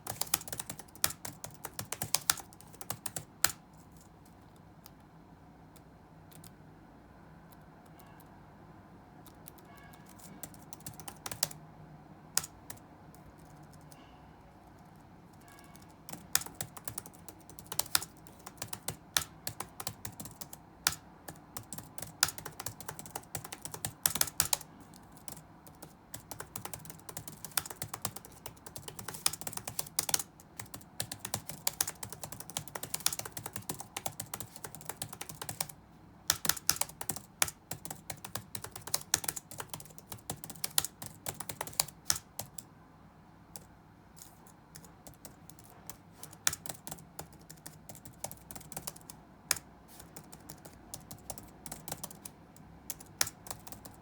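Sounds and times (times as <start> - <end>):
keyboard typing: 0.0 - 5.1, 5.7 - 6.6, 9.2 - 11.6, 12.3 - 14.0, 14.6 - 42.7, 43.5 - 54.0
faint room hum: 0.0 - 54.0.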